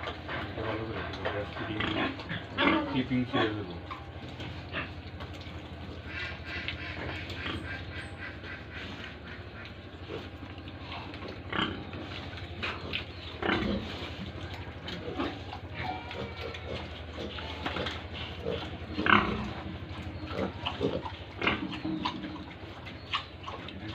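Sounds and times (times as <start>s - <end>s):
loud pig calls: 0.0s - 23.9s
pigs grunting: 0.0s - 23.9s.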